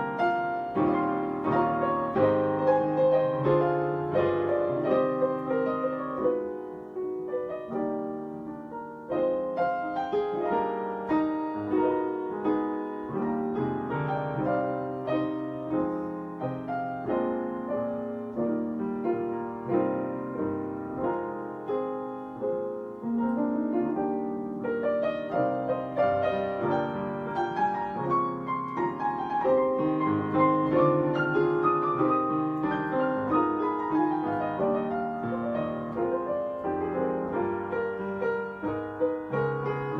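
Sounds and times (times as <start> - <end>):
piano playing: 0.0 - 39.9.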